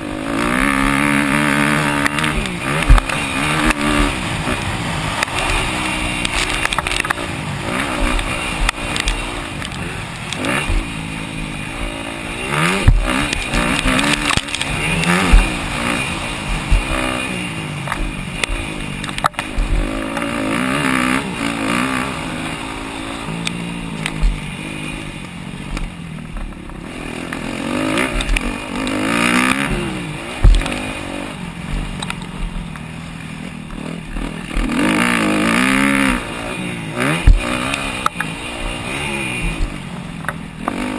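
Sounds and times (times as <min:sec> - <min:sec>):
motorbike engines revving: 0:00.0 - 0:40.9
sharp thumps: 0:00.6 - 0:20.4, 0:22.2 - 0:36.4, 0:37.0 - 0:40.8.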